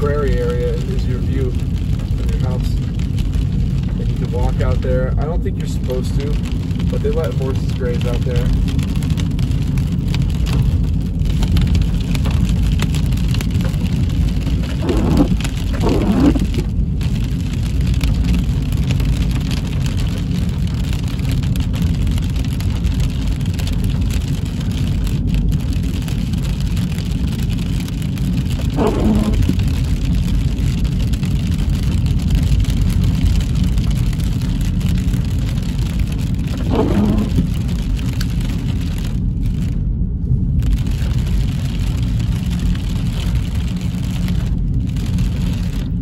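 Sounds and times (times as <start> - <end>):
car road noise: 0.0 - 46.0
rain hitting car: 0.0 - 46.0.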